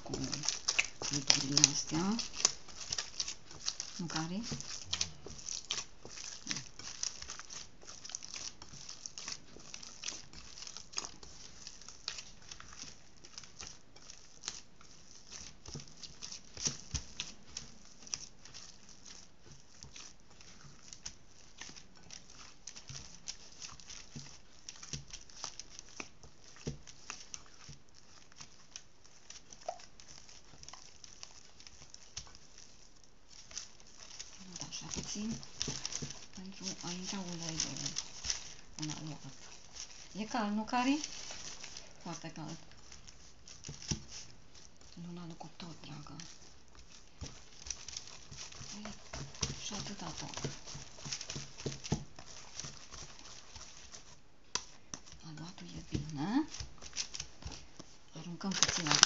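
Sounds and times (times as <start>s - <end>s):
hands kneading wet dough: 0.0s - 59.0s.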